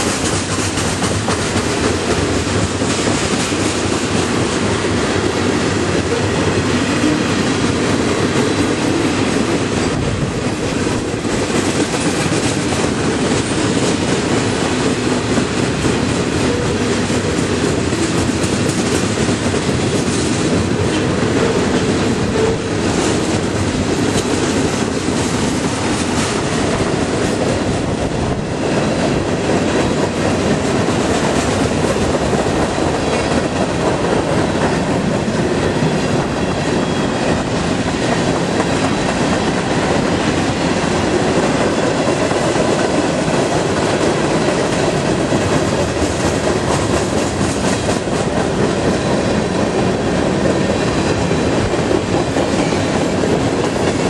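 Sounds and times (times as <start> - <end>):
clickety-clack over rail joints: 0.0 - 54.0
train wheels rumbling on rails: 0.0 - 54.0.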